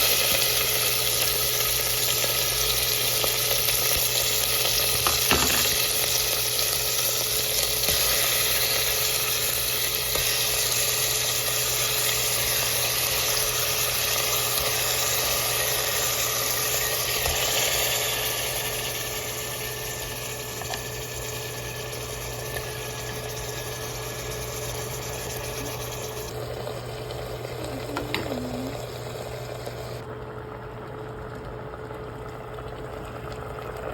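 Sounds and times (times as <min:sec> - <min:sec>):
meat sizzling in a pan: 0:00.0 - 0:30.0.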